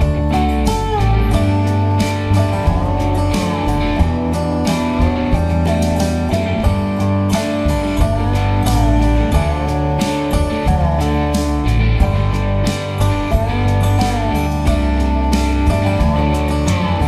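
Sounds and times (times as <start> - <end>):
guitar-led music with bass: 0.0 - 17.0.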